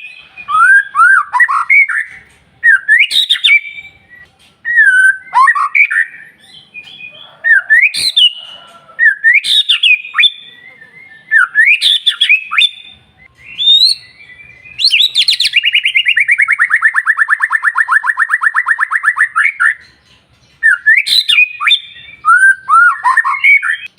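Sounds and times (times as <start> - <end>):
bird whistling song: 0.0 - 23.9.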